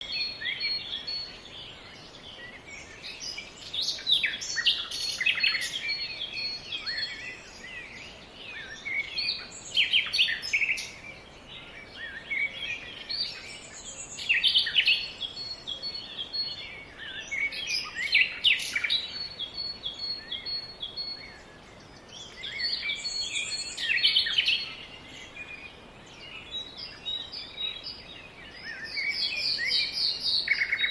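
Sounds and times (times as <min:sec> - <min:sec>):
songbirds chirping song: 0:00.0 - 0:30.9.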